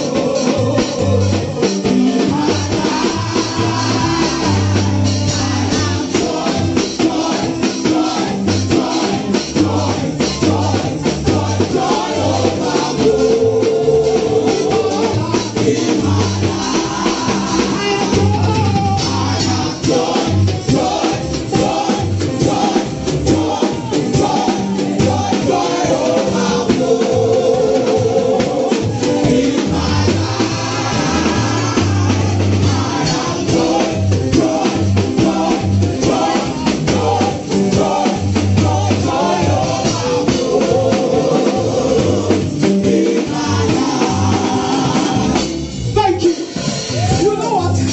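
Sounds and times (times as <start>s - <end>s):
band with drums: 0.0s - 47.9s.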